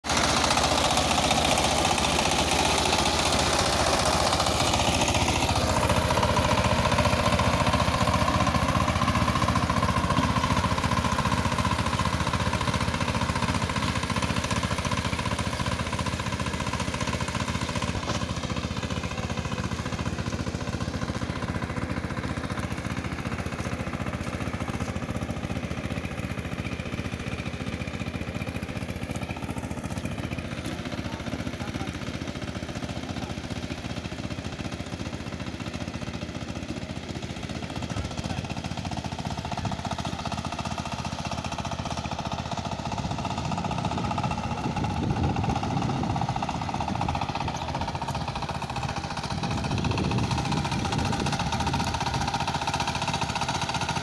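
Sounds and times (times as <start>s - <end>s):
rotary blades tilling muddy soil: 0.0s - 54.0s
tiller diesel engine chugging: 0.0s - 54.0s.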